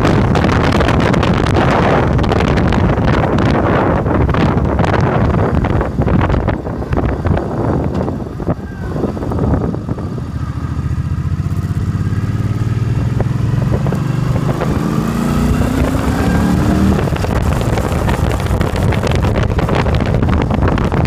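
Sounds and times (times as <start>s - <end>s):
motorcycle engine: 0.0s - 21.0s
wind rush: 0.0s - 21.0s.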